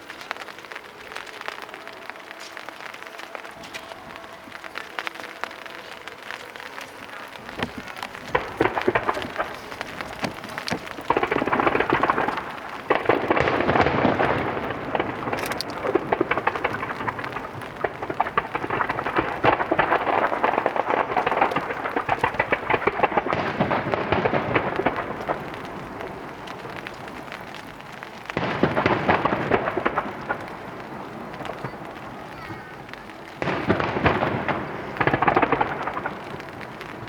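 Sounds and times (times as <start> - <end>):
fireworks booms: 0.0 - 37.0
fireworks crackling: 0.0 - 37.0.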